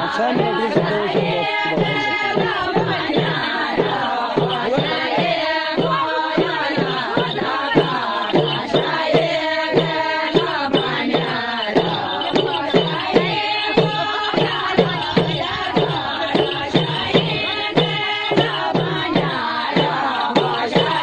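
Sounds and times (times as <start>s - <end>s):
women singing folk song in chorus: 0.0s - 21.0s.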